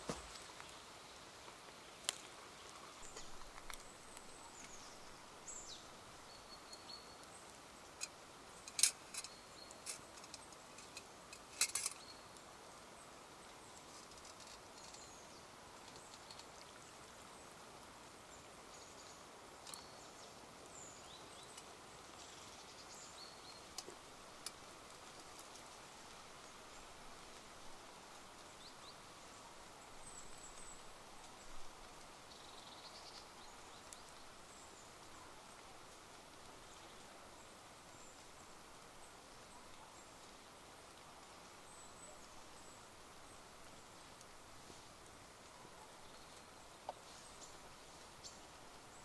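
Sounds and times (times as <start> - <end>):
small birds chirping: 0.0 - 49.0
steady soft hiss: 0.0 - 49.0.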